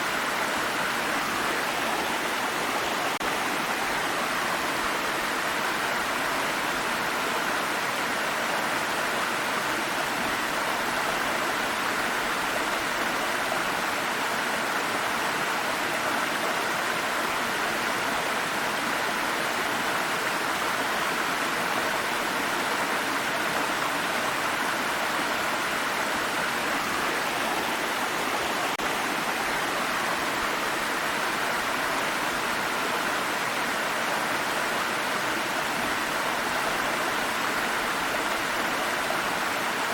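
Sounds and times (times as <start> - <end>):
stream of water splashing: 0.0 - 39.9.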